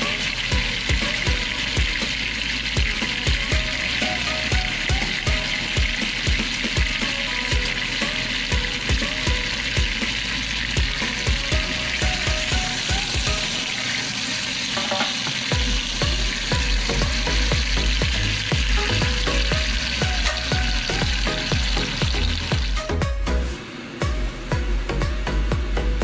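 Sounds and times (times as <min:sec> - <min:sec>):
steaks sizzling in a frying pan: 0:00.0 - 0:22.8.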